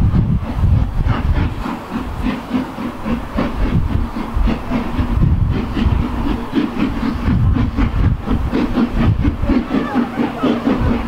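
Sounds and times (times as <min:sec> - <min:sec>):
rumble and hiss of steam: 0:00.0 - 0:11.0
steam locomotive exhaust beats: 0:00.0 - 0:11.0.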